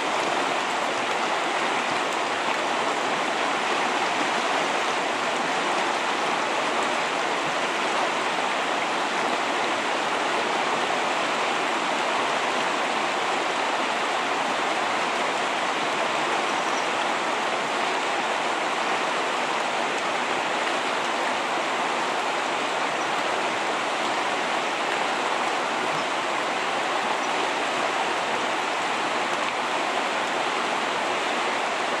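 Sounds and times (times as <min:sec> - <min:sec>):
river water rushing over riffles: 0:00.0 - 0:32.0.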